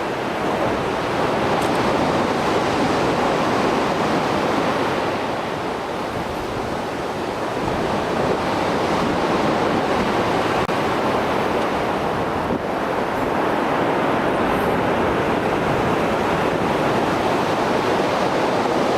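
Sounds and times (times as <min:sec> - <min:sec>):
waves breaking on shore: 0:00.0 - 0:18.9.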